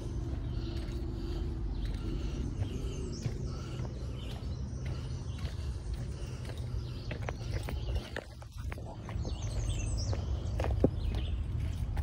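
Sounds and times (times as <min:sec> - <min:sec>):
birds chirping: 0:00.0 - 0:12.0
footsteps on dirt trail: 0:00.0 - 0:12.0
steady low rumble: 0:00.0 - 0:12.0.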